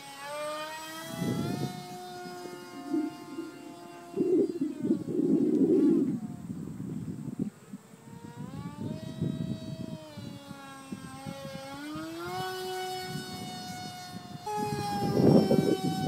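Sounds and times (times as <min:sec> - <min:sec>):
electric model plane motor whine: 0:00.0 - 0:16.0
wind on microphone: 0:00.0 - 0:16.0.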